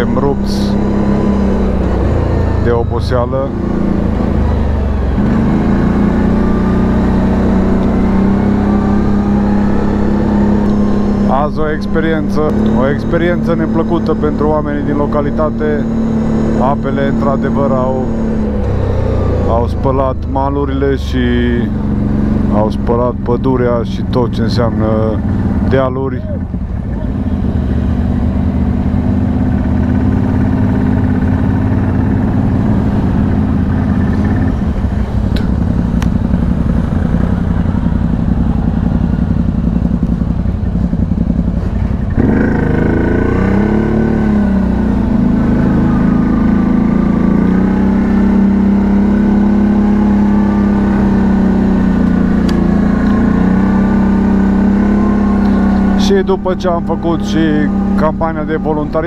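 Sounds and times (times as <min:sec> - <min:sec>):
atv engine droning: 0:00.0 - 0:59.0.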